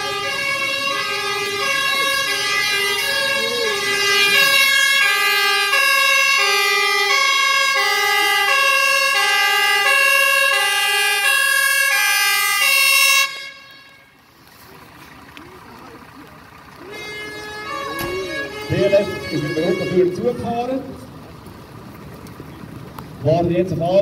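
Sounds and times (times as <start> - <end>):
two-tone fire engine siren: 0.0 - 21.2.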